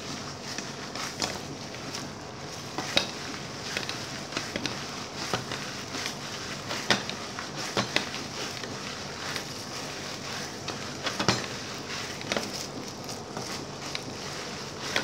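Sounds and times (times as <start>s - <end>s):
plastic gloves crinkling: 0.0s - 15.0s
wet squishing of kneaded meat: 0.0s - 15.0s.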